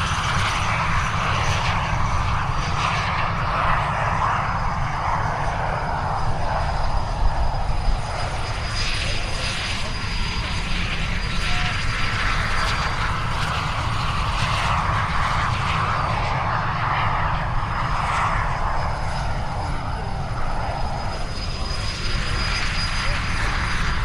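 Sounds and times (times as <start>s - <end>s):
jets flying by: 0.0s - 24.0s.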